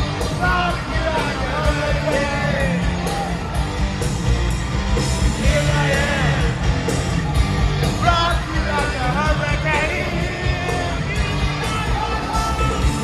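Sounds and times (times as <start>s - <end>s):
crowd singing and yelling: 0.0s - 13.0s
hard rock band playing live: 0.0s - 13.0s.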